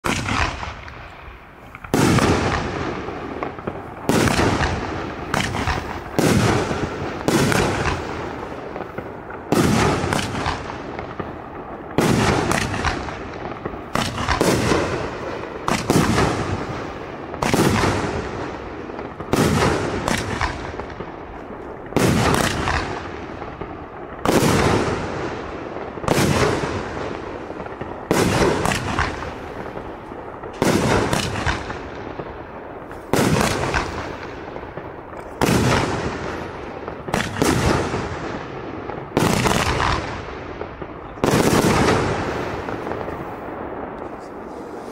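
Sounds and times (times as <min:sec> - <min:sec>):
firework bangs: 0:00.0 - 0:44.9.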